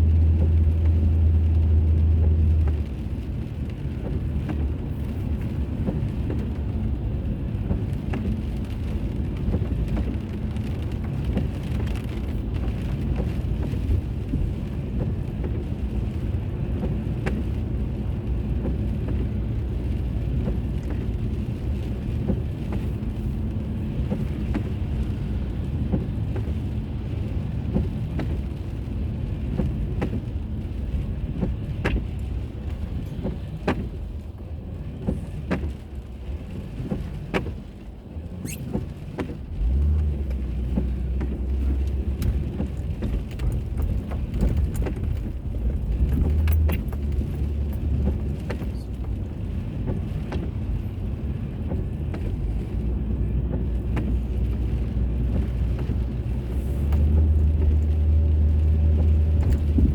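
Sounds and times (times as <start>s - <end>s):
car tyres and engine rumble: 0.0s - 59.9s.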